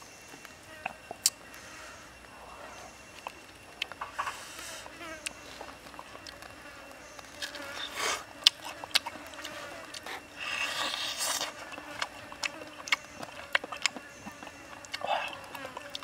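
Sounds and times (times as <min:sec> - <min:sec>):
faint insect buzz: 0:00.0 - 0:16.0
chewing crunchy food: 0:03.1 - 0:16.0.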